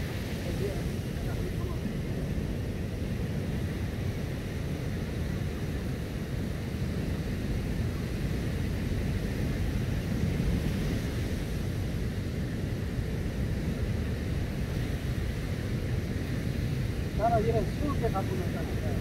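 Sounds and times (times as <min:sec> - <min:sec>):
surf washing: 0:00.0 - 0:19.0
wind rumbling on microphone: 0:00.0 - 0:19.0.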